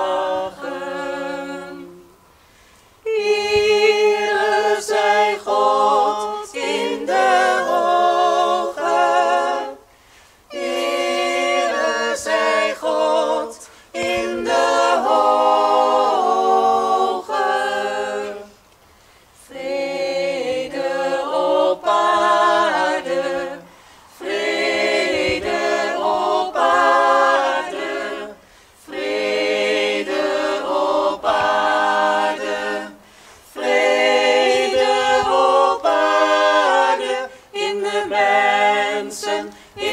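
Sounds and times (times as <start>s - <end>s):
mixed choir singing a cappella: 0.0s - 2.4s, 3.0s - 18.7s, 19.4s - 39.9s.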